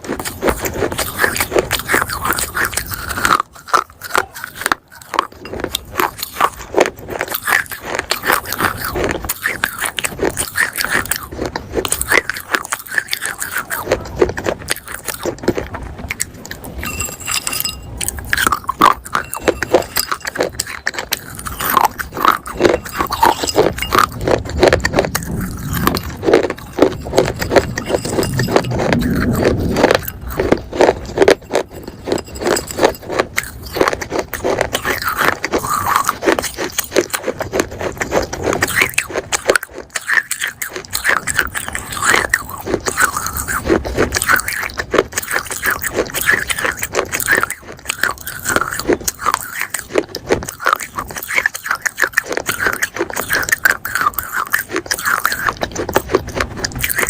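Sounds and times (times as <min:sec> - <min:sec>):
chewing gritty clay pieces: 0:00.0 - 0:57.0.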